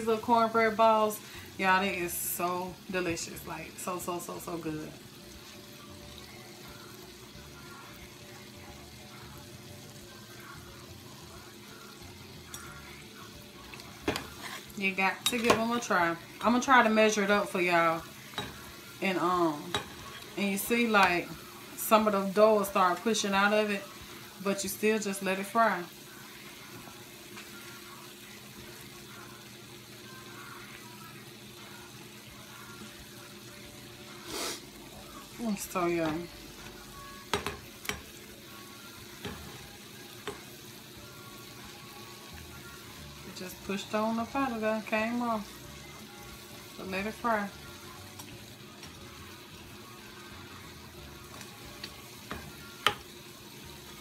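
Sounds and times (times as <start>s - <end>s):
food deep-frying in oil: 0.0s - 54.0s.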